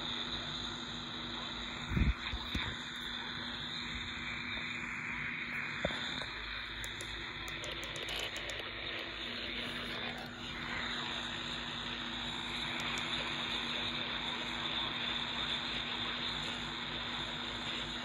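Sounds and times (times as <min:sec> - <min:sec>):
faint low hum: 0:00.0 - 0:18.0
radio static hiss: 0:00.0 - 0:18.0.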